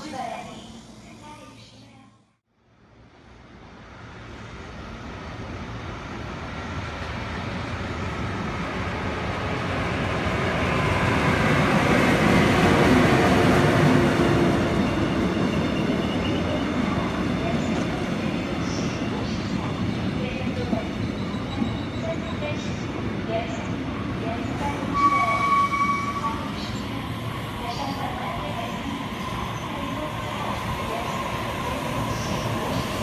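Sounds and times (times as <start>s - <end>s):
train rumbling on rails: 2.9s - 33.0s.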